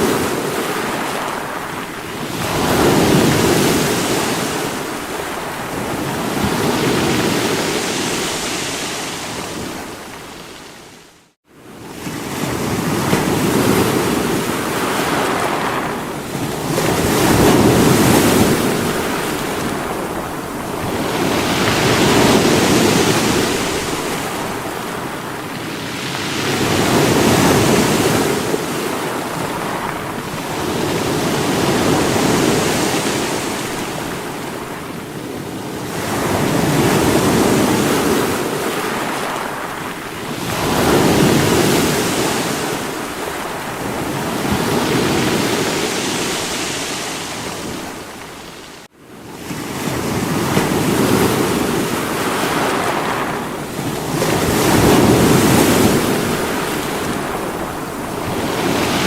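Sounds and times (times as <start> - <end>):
sea waves breaking against rocks: 0.0 - 11.0, 11.7 - 59.0.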